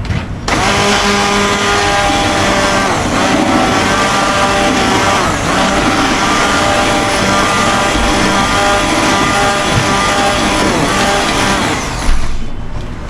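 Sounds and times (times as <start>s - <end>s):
electric blender running: 0.5s - 12.4s.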